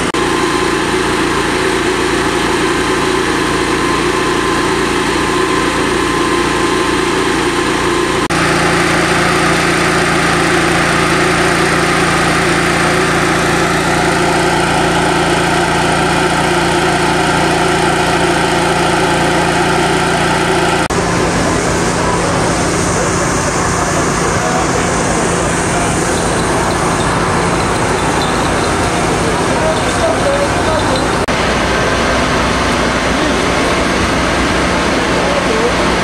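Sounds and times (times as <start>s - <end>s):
fan air rushing: 0.0s - 36.0s
ventilation fan engine humming: 0.0s - 36.0s.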